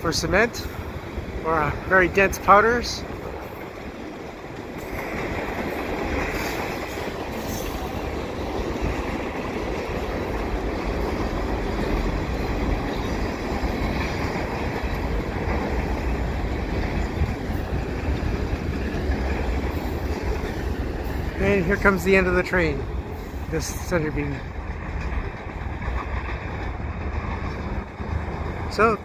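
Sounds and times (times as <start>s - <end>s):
freight train wheels rumbling on rails: 0.0s - 29.0s.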